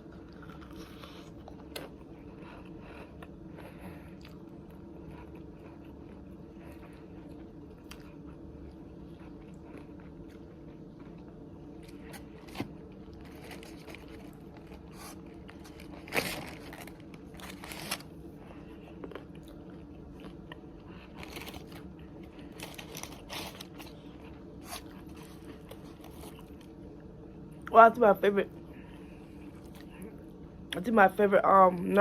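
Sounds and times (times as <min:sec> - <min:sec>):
person chewing crunchy food: 0:00.0 - 0:26.8
steady low hum: 0:00.0 - 0:32.0.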